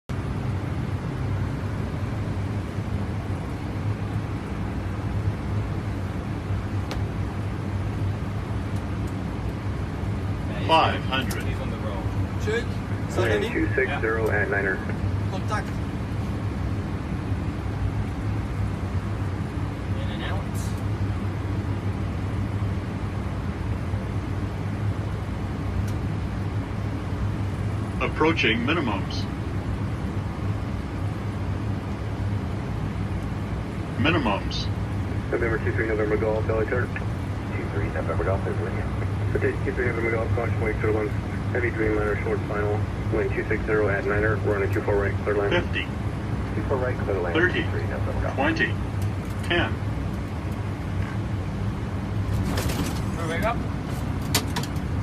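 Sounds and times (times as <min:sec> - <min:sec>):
airflow and engine rumble: 0:00.0 - 0:55.0
low cockpit hum: 0:00.0 - 0:55.0.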